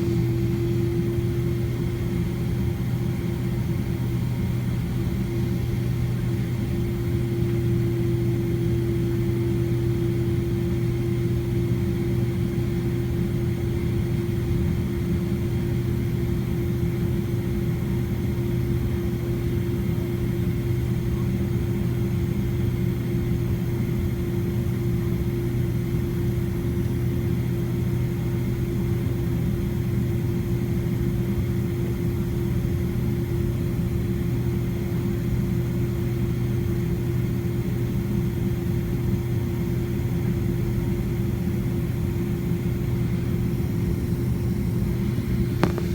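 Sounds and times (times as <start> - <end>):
airplane cabin engine drone: 0.0 - 45.9.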